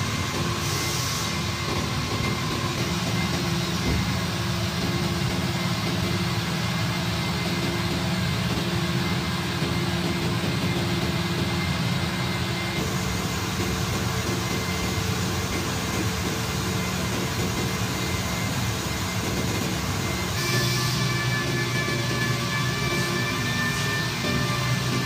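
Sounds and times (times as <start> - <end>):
machinery hum: 0.0 - 25.0.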